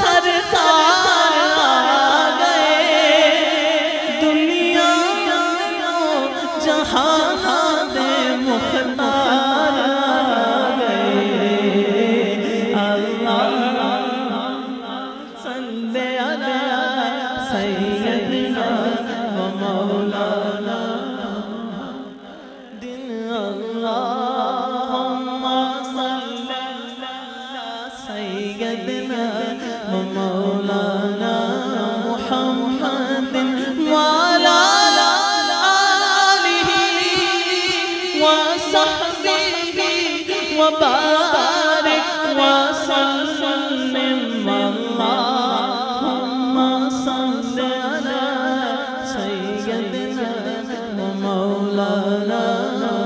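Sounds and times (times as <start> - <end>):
man singing unaccompanied: 0.0 - 53.0.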